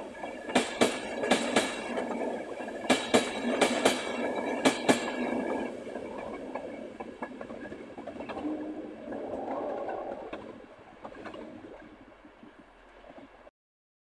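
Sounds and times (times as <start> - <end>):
track clicks: 0.0 - 13.0
electric train rumble: 0.0 - 13.5.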